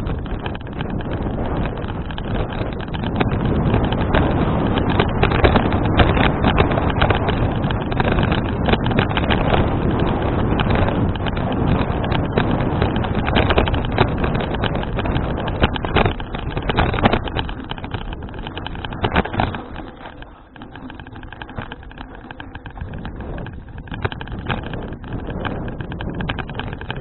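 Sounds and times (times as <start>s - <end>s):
bicycle clicks and rattles: 0.0s - 27.0s
wind buffeting microphone: 0.0s - 27.0s.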